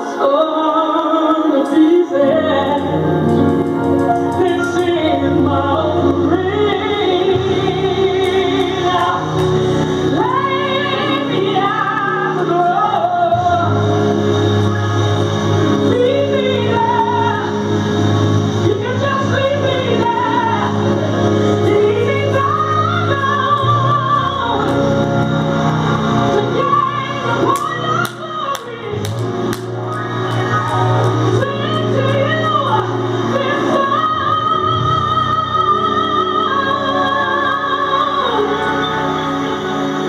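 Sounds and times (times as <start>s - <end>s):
woman singing gospel: 0.0s - 17.9s, 18.6s - 25.2s, 26.3s - 40.0s.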